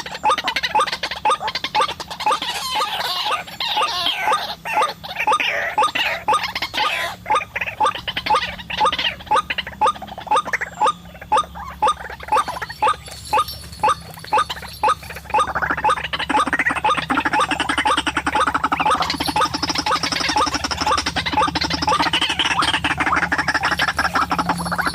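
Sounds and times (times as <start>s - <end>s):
bird calling repeated rising notes: 0.0s - 24.9s.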